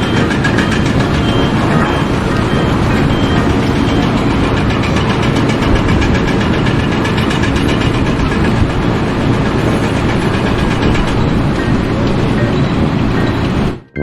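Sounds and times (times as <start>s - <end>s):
fast even clatter: 0.0s - 13.8s
heavy machine engine running: 0.0s - 14.0s.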